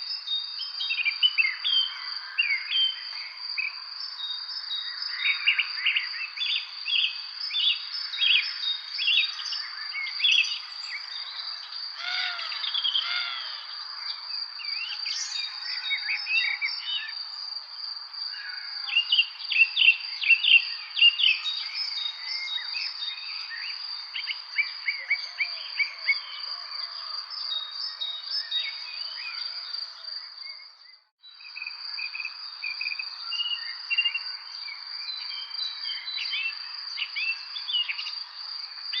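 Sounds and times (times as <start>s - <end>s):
songbirds chirping and singing: 0.0s - 31.5s, 32.5s - 39.0s.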